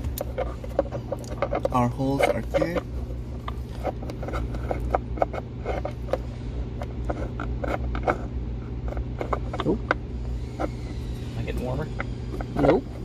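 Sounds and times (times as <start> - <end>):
cable scraping and clicking: 0.0 - 10.9
steady low hum: 0.0 - 13.0.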